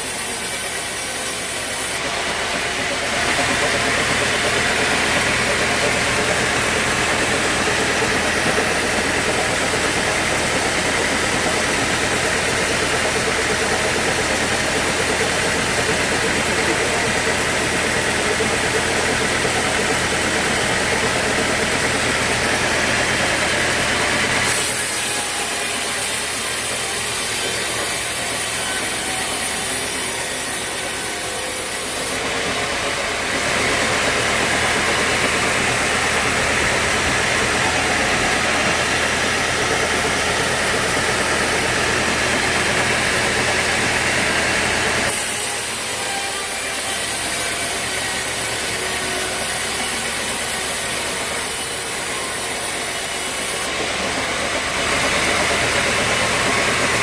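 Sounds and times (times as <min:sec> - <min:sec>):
saw cutting through log: 0:00.0 - 0:57.0
steady machine drone: 0:00.0 - 0:57.0.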